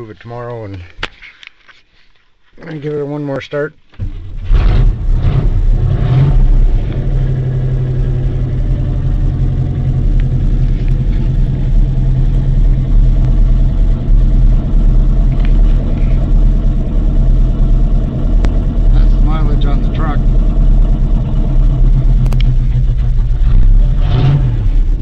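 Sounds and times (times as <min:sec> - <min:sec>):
pickup truck engine idling: 0:04.0 - 0:25.0.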